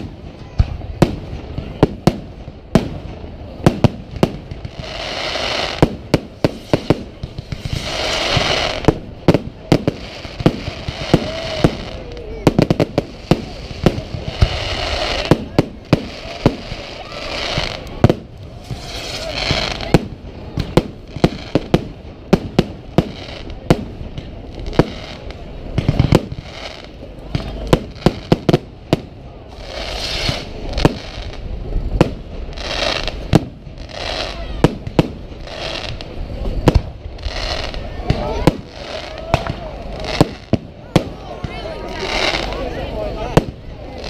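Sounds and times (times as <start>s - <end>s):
firework hiss: 0.0s - 44.0s.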